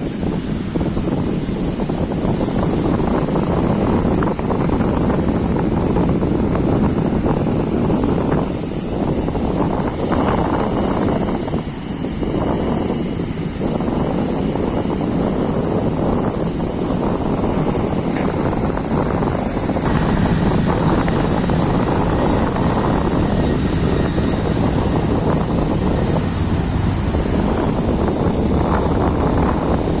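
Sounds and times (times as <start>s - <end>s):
aircraft engines roaring: 0.0s - 30.0s.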